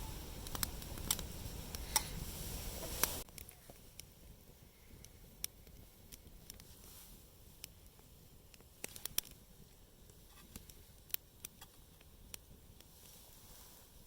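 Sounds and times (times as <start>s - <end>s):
campfire wood crackling: 0.0s - 14.0s
faint low rumble: 0.0s - 14.0s.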